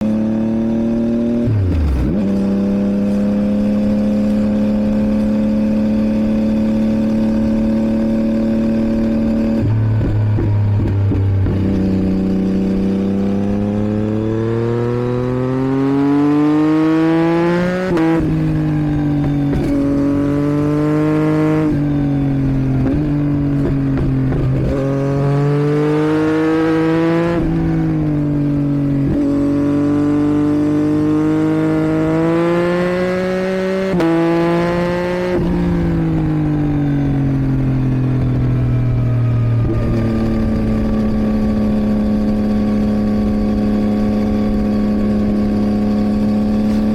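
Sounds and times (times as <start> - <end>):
motorcycle engine revving through gears: 0.0 - 46.9.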